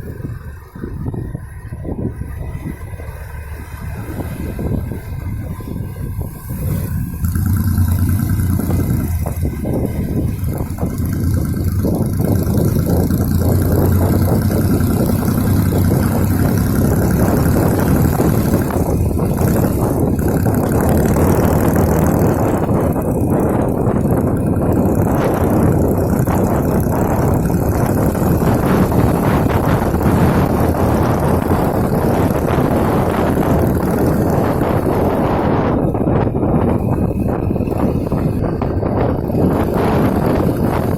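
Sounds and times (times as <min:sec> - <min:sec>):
motorcycle engine hum: 0:00.0 - 0:40.9
wind and road noise: 0:00.0 - 0:40.9.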